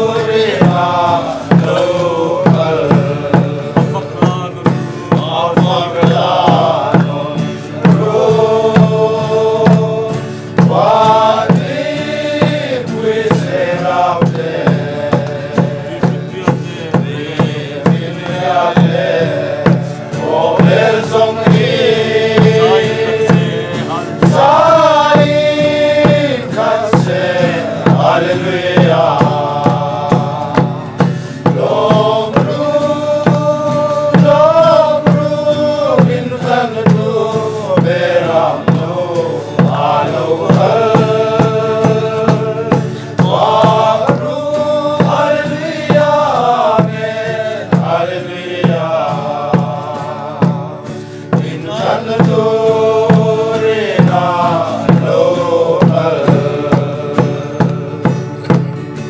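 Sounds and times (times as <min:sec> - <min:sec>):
acoustic guitars: 0:00.0 - 0:59.0
drum beating steady pulse: 0:00.0 - 0:59.0
men singing a hymn: 0:00.0 - 0:59.0.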